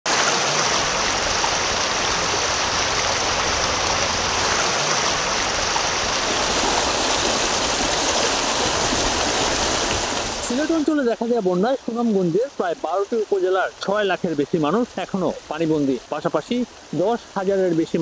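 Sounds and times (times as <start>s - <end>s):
floodwater rushing: 0.1s - 18.0s.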